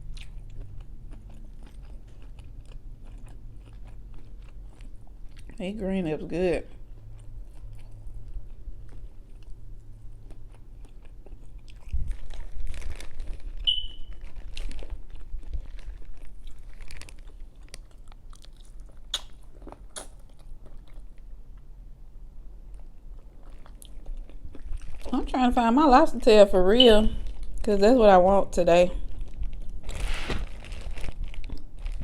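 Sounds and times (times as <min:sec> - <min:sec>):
person chewing food: 0:00.0 - 0:05.6, 0:06.7 - 0:25.2, 0:29.1 - 0:32.0.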